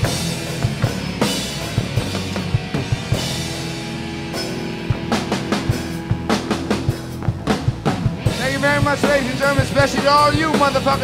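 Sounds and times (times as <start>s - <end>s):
drum kit beating: 0.0s - 11.0s
electric guitar and bass: 0.0s - 11.0s.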